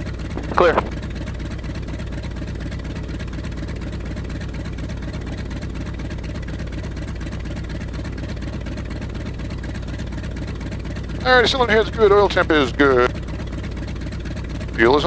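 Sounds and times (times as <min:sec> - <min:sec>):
radial aircraft engine idling: 0:00.0 - 0:15.0.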